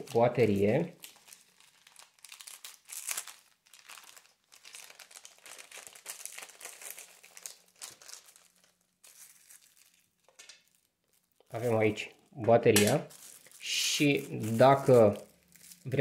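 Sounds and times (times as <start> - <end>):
plastic bag crinkling: 0.0 - 12.0, 12.7 - 16.0.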